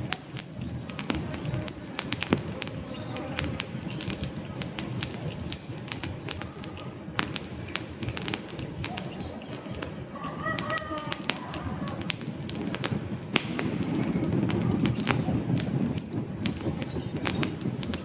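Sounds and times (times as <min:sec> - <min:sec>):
campfire crackling and popping: 0:00.0 - 0:18.0
low rumble of burning logs: 0:00.0 - 0:18.0.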